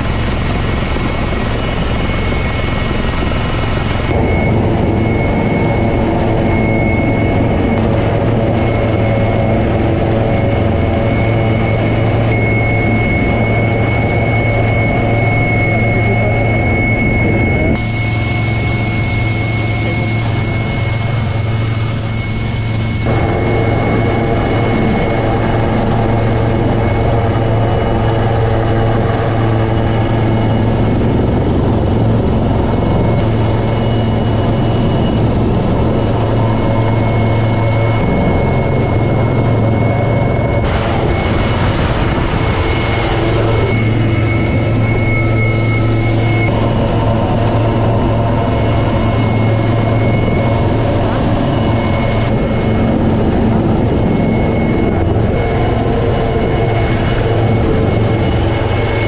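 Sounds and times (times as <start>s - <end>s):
helicopter engines and rotors: 0.0s - 59.0s
high turbine whine: 0.0s - 59.0s.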